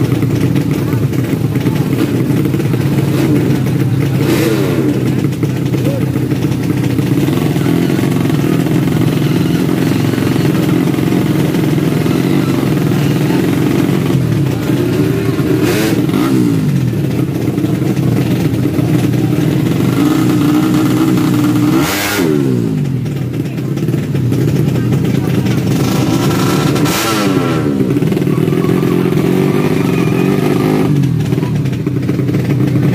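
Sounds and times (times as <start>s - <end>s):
motorcycle engines revving high: 0.0s - 32.9s.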